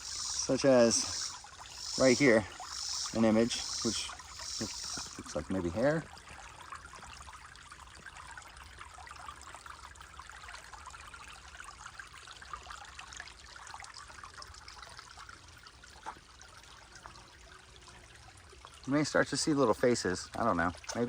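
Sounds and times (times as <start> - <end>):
creek water trickling over stones: 0.0 - 21.0.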